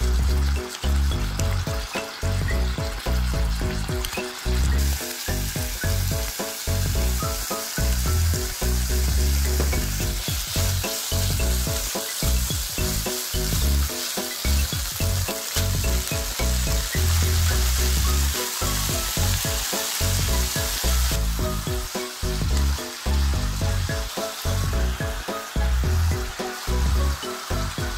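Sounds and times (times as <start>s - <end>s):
meat sizzling in frying pan: 0.0s - 27.9s
spatula stirring in pan: 0.3s - 27.9s.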